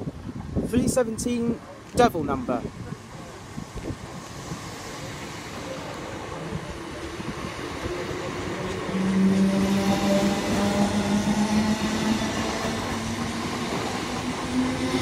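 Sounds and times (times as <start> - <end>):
steady train hum: 0.0 - 15.0
electric train passing: 2.7 - 15.0.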